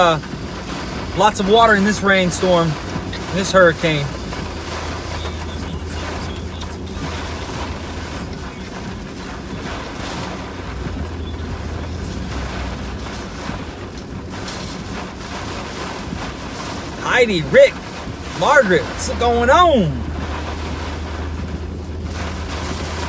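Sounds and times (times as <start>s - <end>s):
car driving rumble: 0.0s - 23.0s
heavy rain on a car: 0.0s - 23.0s
tyres on flooded road: 0.0s - 23.0s.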